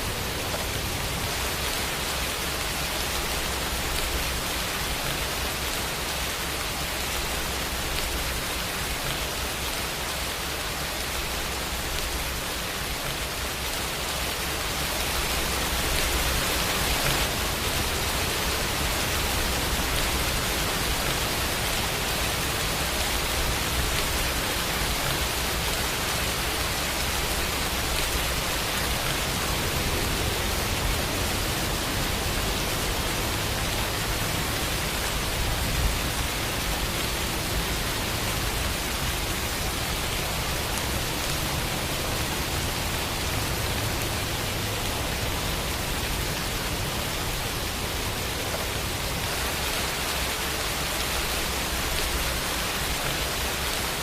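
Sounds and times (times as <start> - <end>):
rain hissing: 0.0 - 54.0.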